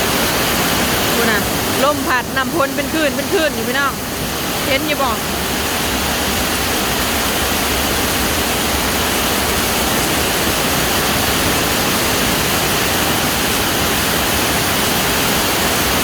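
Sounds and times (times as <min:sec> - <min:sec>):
rain: 0:00.0 - 0:16.0
strong storm wind: 0:00.0 - 0:16.0.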